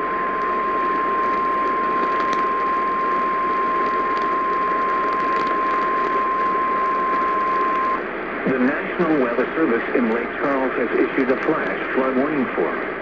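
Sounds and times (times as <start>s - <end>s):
radio hiss and static crackle: 0.0s - 13.0s.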